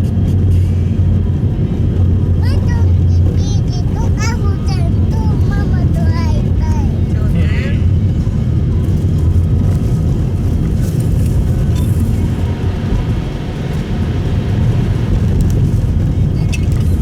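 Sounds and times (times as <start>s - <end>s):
car cabin engine and tyre drone: 0.0s - 17.0s.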